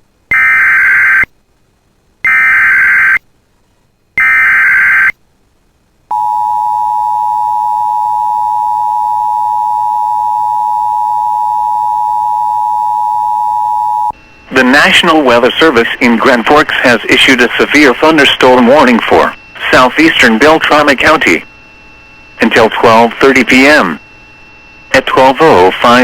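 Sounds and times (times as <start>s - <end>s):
steady attention signal tone: 0.3s - 1.3s, 2.2s - 3.2s, 4.2s - 5.2s, 6.1s - 26.0s.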